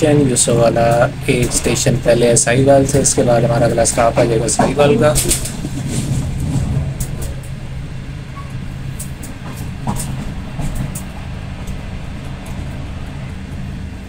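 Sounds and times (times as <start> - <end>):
light ticks and rattles: 0.0 - 14.0
train rumbling: 0.0 - 14.0.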